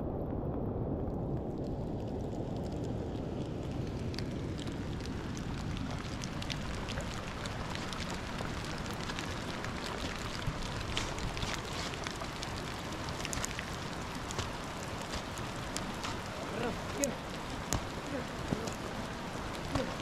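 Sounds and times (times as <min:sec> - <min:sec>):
steady low rumble: 0:00.0 - 0:20.0
rain falling: 0:01.1 - 0:20.0
raindrops ticking close by: 0:01.1 - 0:20.0.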